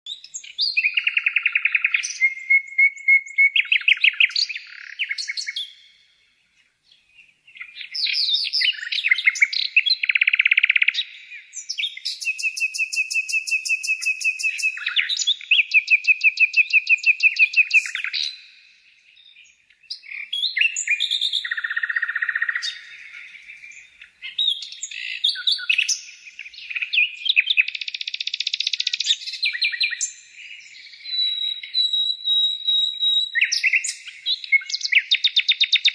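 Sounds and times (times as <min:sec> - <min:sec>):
lovebirds chirping: 0:00.1 - 0:35.9.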